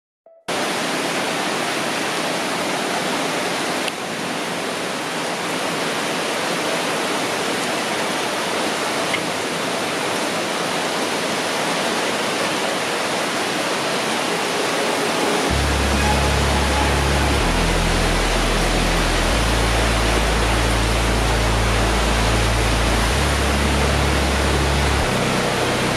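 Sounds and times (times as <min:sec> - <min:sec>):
rain falling steadily: 0:00.5 - 0:25.9.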